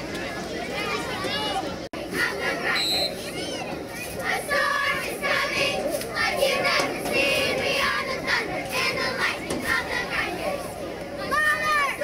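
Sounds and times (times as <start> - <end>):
spectators shouting and cheering: 0.0 - 12.0.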